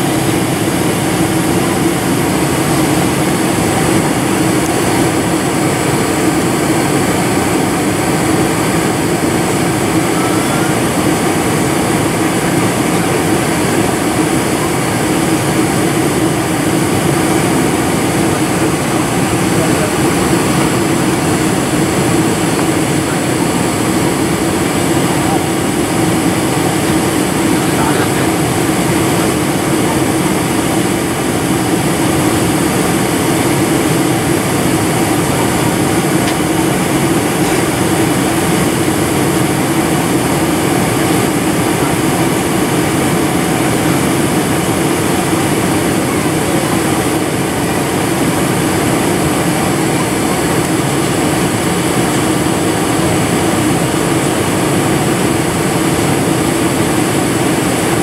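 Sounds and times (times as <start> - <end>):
faint high whine: 0.0 - 58.0
jet engine cabin drone: 0.0 - 58.0
rushing air: 0.0 - 58.0.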